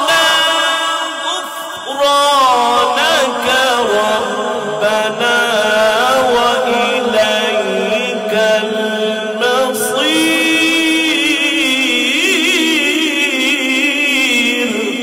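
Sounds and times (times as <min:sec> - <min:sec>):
man reciting in melodic held notes: 0:00.0 - 0:15.0.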